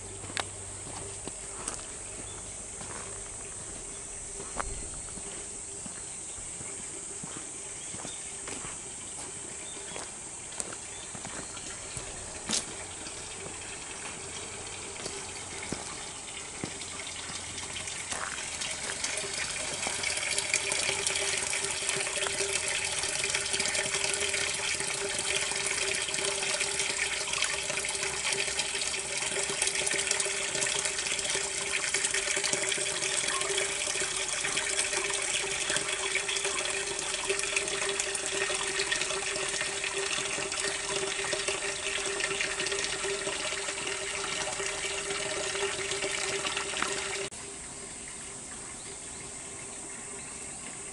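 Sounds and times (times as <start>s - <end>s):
water pouring into stone basin: 8.3s - 50.9s.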